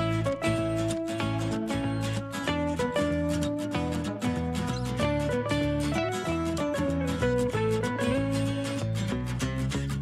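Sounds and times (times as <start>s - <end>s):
guitar playing bouncy melody: 0.0s - 10.0s.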